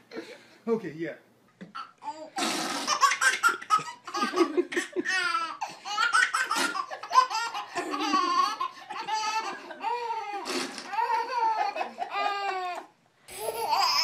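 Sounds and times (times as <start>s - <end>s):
baby laughing: 1.7s - 14.0s.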